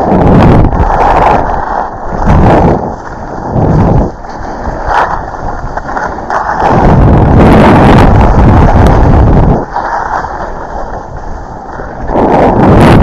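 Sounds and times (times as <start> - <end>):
skis sliding on snow: 0.0 - 13.0
wind rushing over microphone: 0.0 - 13.0.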